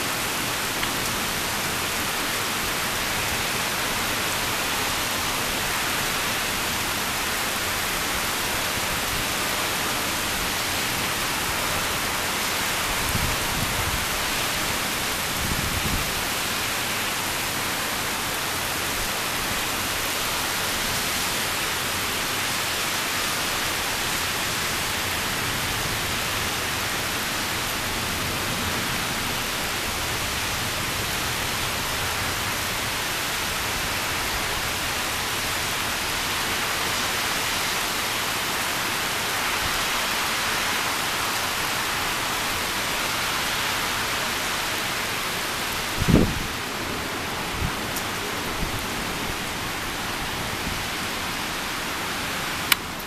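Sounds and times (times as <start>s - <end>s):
heavy rain downpour: 0.0s - 53.0s.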